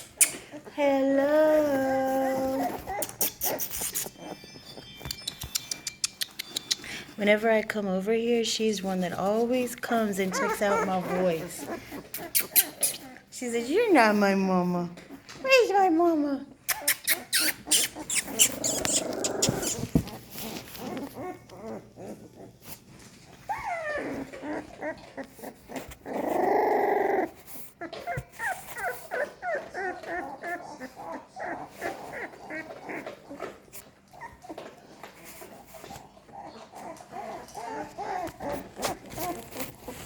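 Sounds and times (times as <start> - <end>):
puppies whining and squeaking: 0.0 - 15.4, 16.6 - 40.0.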